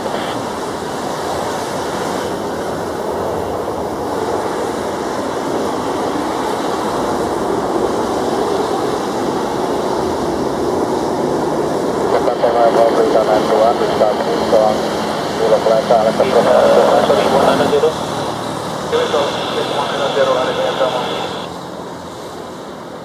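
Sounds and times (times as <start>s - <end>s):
jet engines at takeoff power: 0.0s - 23.0s.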